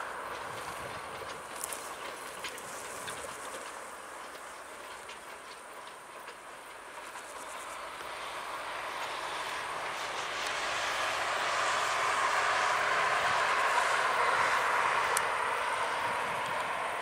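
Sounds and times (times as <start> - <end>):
distant train rushing: 0.0 - 17.0
wheels clicking over rail joints: 0.0 - 17.0.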